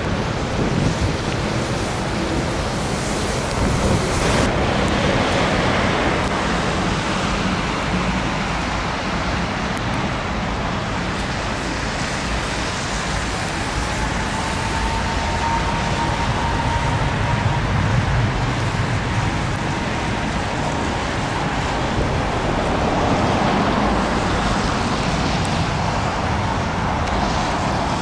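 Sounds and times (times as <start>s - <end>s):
jet engine low rumble: 0.0s - 28.0s
jet engine whine: 0.0s - 28.0s
wind noise on microphone: 0.0s - 28.0s.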